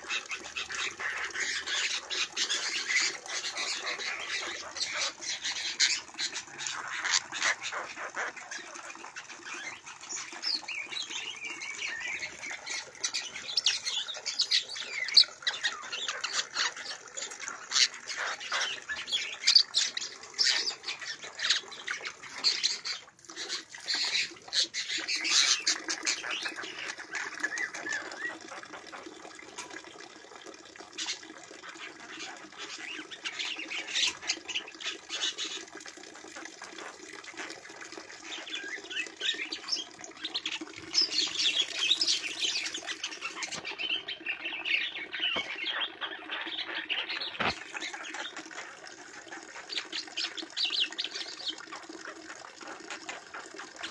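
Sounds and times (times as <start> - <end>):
birds chattering and squawking: 0.0 - 53.9.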